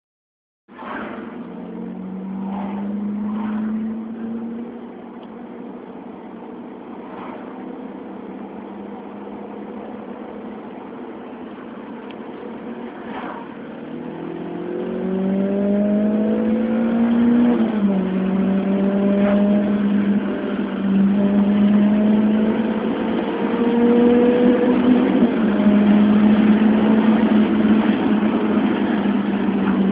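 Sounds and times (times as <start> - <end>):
car engine accelerating: 0.8 - 29.9.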